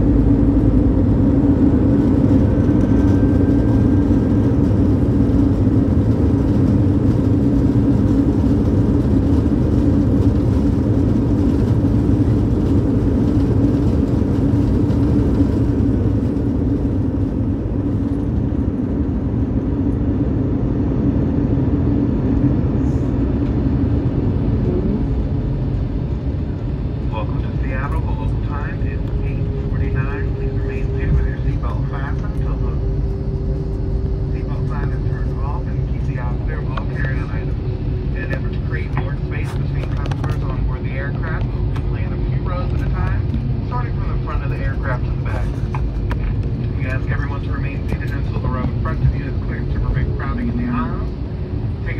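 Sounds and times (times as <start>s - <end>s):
roar of engines and wheels: 0.0s - 51.9s.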